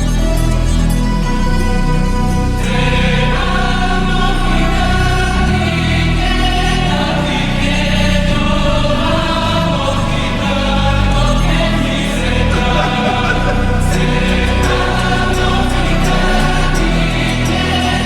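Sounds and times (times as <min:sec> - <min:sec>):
choir singing: 0:00.0 - 0:18.0
sustained bass: 0:00.0 - 0:18.0.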